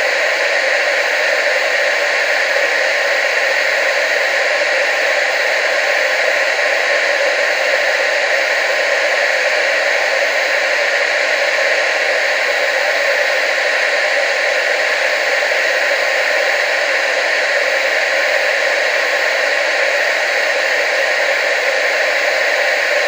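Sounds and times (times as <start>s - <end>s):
television static hiss: 0.0s - 23.0s.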